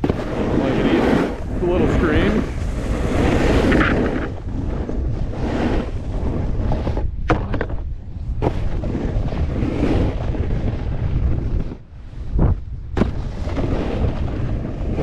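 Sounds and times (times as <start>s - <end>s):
snowboard scraping on snow: 0.0s - 15.0s
wind buffeting microphone: 0.0s - 15.0s.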